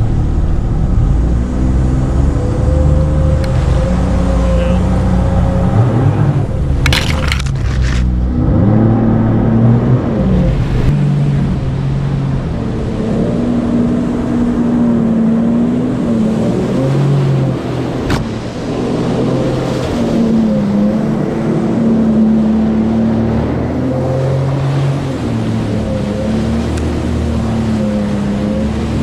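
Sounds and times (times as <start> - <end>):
jet ski engine running: 0.0 - 29.0.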